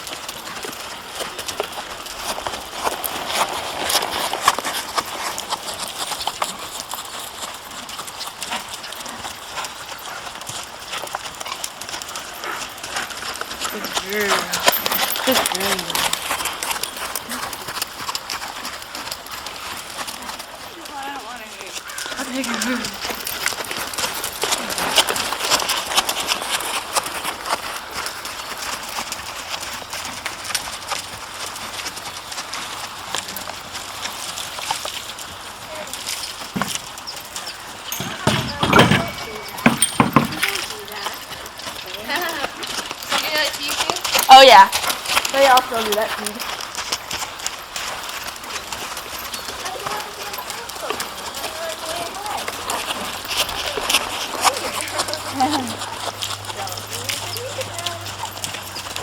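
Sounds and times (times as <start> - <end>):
horse hooves clopping: 0.0 - 59.0.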